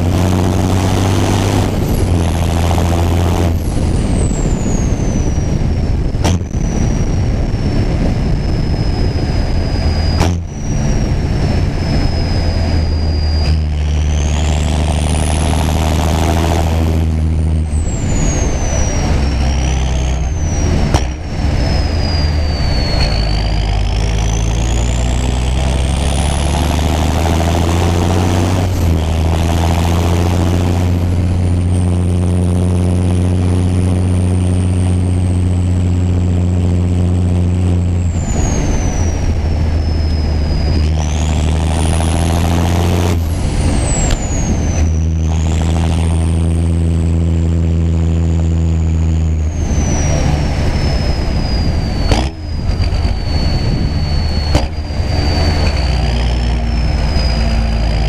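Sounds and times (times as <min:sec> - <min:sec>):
tractor diesel engine running: 0:00.0 - 0:58.0
turbo whistle: 0:03.5 - 0:31.8, 0:36.4 - 0:46.4, 0:49.0 - 0:58.0.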